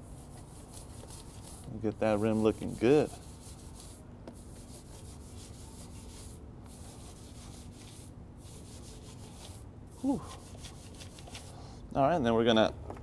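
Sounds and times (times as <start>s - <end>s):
brush scrubbing wet wheel rim: 0.0s - 11.5s.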